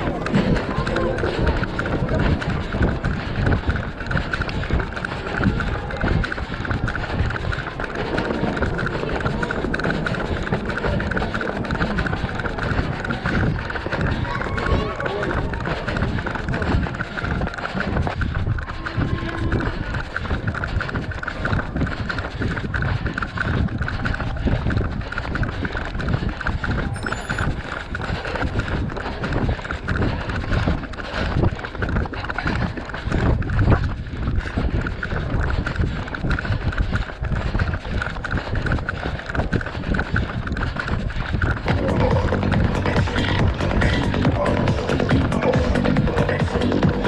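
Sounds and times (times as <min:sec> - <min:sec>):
running footsteps: 0:00.0 - 0:47.0
wind on microphone: 0:00.0 - 0:47.0.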